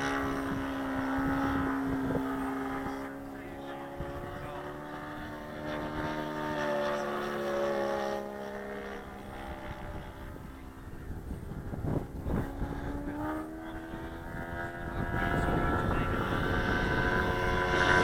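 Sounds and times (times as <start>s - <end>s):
model plane engine in flight: 0.0s - 18.0s
wind buffeting microphone: 0.0s - 18.0s.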